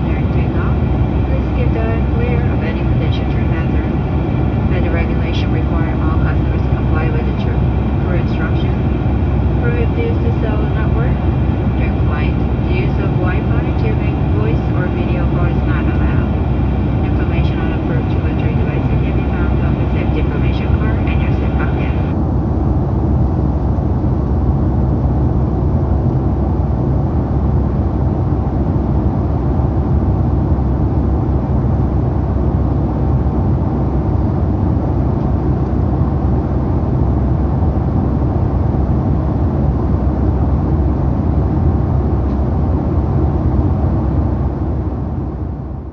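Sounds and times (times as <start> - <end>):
jet engine roar in cabin: 0.0 - 45.9.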